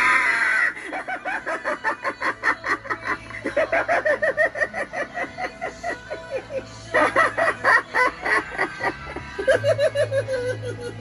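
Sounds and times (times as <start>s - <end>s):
recorded cackling laugh: 0.0s - 11.0s.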